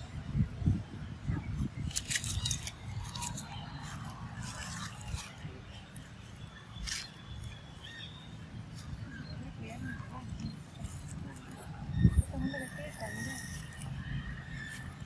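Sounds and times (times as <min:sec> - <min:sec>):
dry leaves crackling and rustling: 0:01.4 - 0:15.0.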